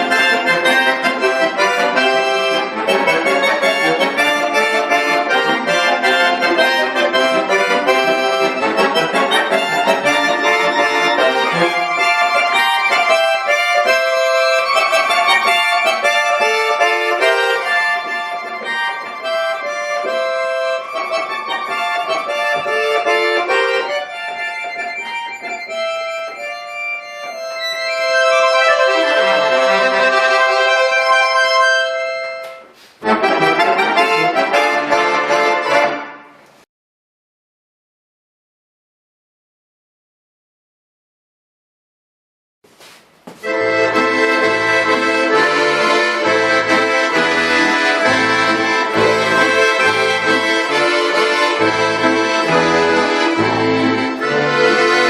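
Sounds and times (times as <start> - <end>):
button accordion playing: 0.0 - 36.4, 42.8 - 55.0.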